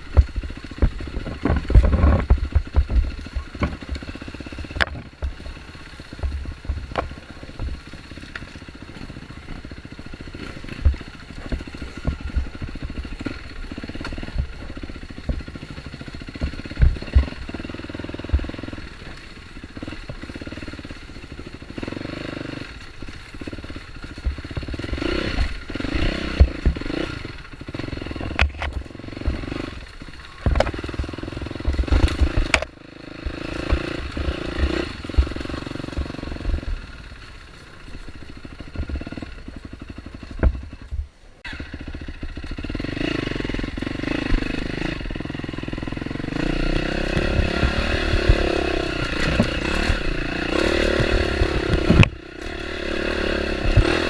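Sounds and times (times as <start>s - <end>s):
dirt bike engine running: 0.0s - 54.0s
knocks and rattles over rough ground: 0.0s - 54.0s.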